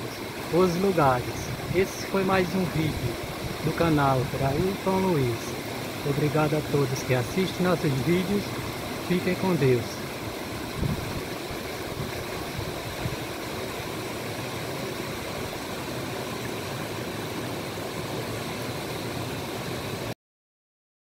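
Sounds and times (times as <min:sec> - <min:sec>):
creek rushing over rocks: 0:00.0 - 0:20.1.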